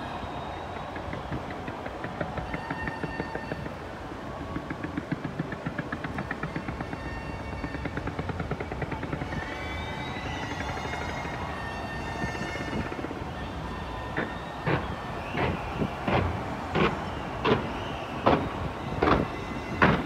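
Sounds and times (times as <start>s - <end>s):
fireworks popping and crackling: 0.0s - 20.0s.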